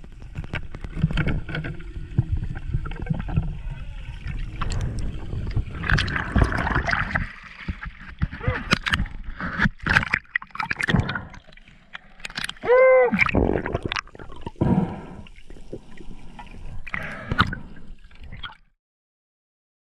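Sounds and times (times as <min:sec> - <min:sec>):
water gurgling underwater: 0:00.7 - 0:18.6.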